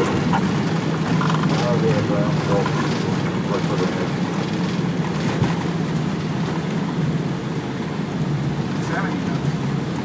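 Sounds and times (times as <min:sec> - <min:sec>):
aircraft engines and wheels on runway: 0:00.0 - 0:10.0.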